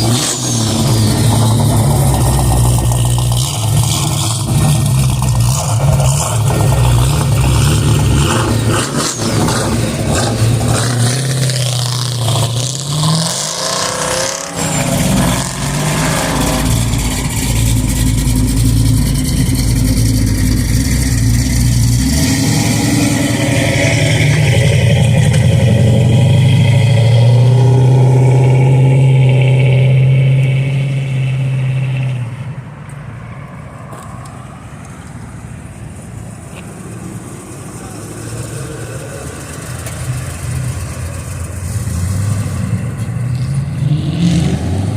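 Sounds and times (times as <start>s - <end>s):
car engine revving: 0.0s - 32.5s, 35.1s - 44.9s.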